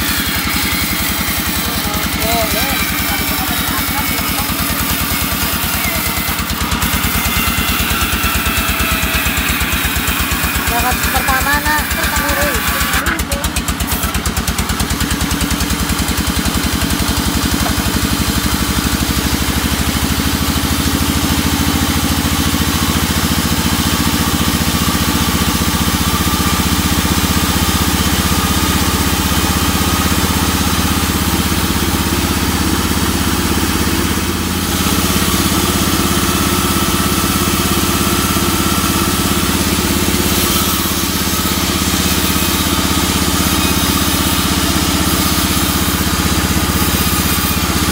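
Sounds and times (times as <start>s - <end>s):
band sawmill drone: 0.0s - 47.9s
saw blade cutting wood: 0.0s - 47.9s.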